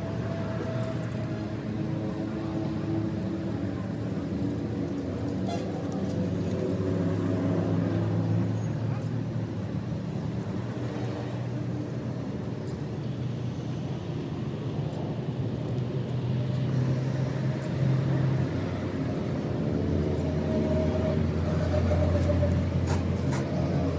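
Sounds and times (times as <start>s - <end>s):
engine droning: 0.0s - 23.9s.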